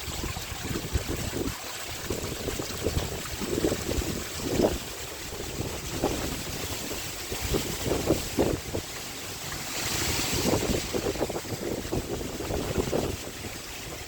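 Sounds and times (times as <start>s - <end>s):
waterfall splashing into pond: 0.0s - 14.0s.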